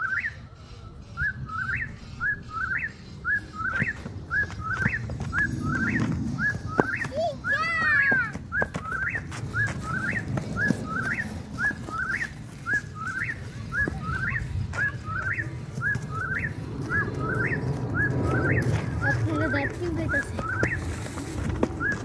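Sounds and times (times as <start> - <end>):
low background rumble: 0.8 - 21.8.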